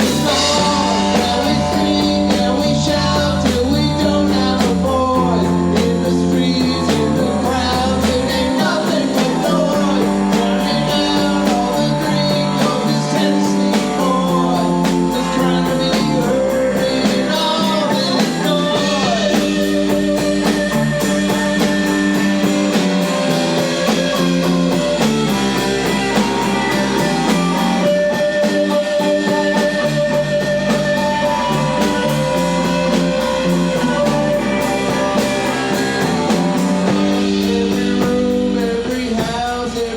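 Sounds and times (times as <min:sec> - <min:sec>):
electric guitar lines: 0:00.0 - 0:39.9
rock band playing live: 0:00.0 - 0:39.9.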